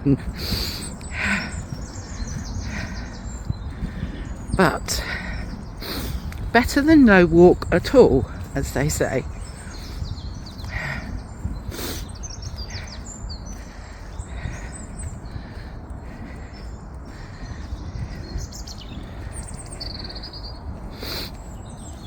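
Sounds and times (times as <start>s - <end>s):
low steady outdoor background: 0.0s - 22.0s
songbirds singing and chirping: 0.0s - 22.0s.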